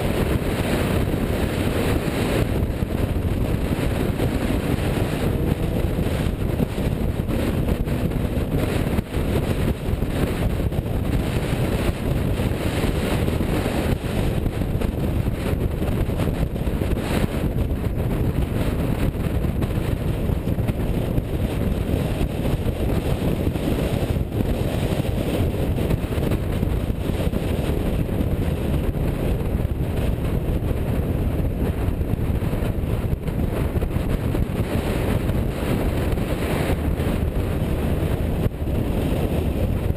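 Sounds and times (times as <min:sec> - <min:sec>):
car rumbling on the move: 0:00.0 - 0:39.9
wind buffeting microphone: 0:00.0 - 0:39.9.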